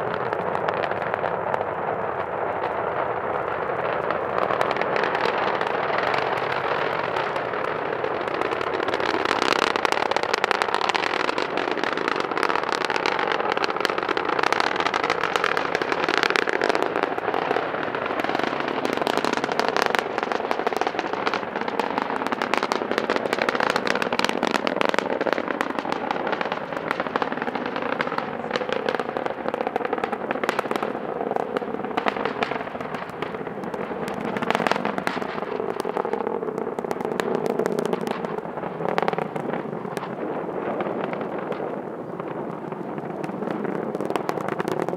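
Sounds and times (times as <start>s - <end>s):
distant rocket engines rumbling: 0.0s - 44.9s.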